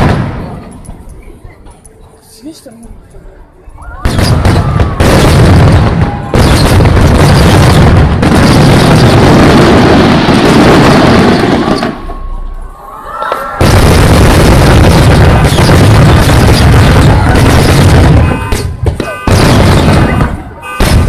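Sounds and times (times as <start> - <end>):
fireworks booming: 0.0 - 1.0, 4.0 - 12.6, 13.3 - 21.0.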